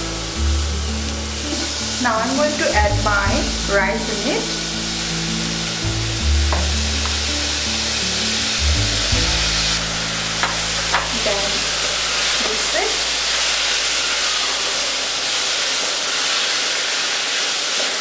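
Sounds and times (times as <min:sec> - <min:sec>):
rice sizzling in a pot: 0:00.0 - 0:18.0.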